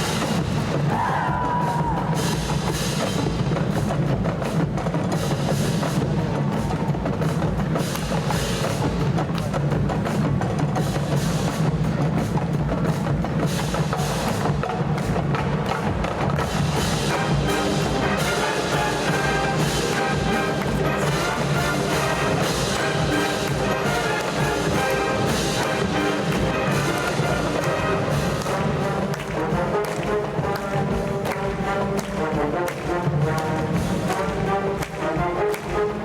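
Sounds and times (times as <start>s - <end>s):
marching percussion drumming: 0.0s - 36.0s.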